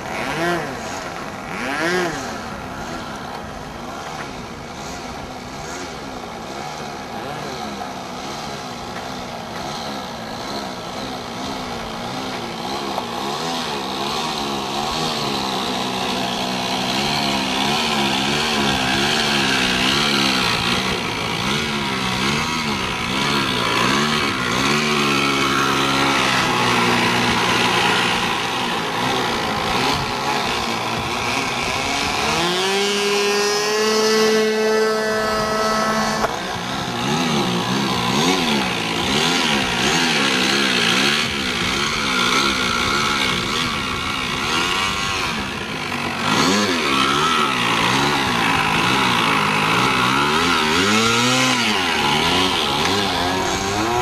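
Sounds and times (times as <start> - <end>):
model airplane engine buzzing: 0.0 - 54.0.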